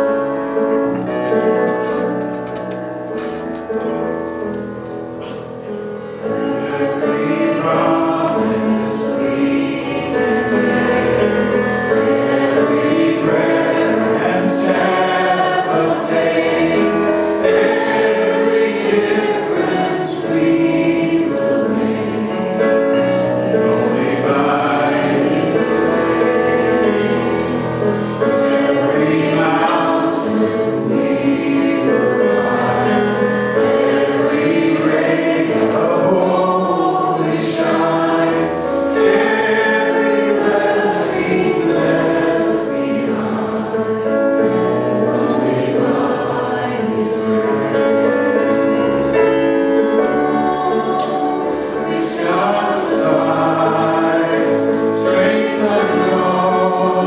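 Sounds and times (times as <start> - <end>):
keyboard: 0.0 - 57.0
people singing together: 5.2 - 57.0.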